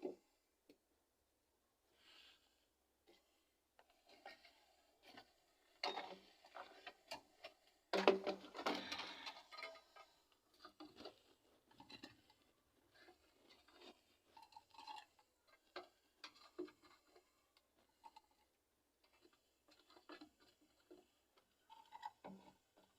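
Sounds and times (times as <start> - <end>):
objects being handled: 3.0 - 22.9.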